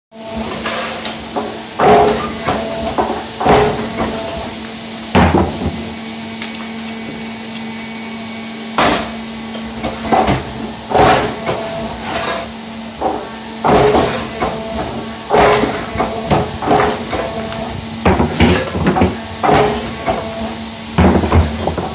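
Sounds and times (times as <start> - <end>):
machine hum: 0.1 - 21.9.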